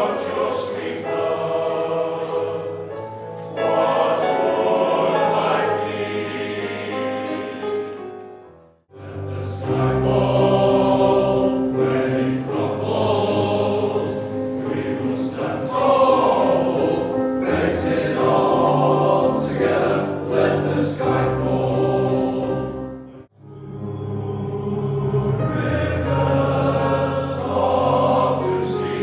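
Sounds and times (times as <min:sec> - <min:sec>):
male choir singing in harmony: 0:00.0 - 0:08.2, 0:08.9 - 0:29.0.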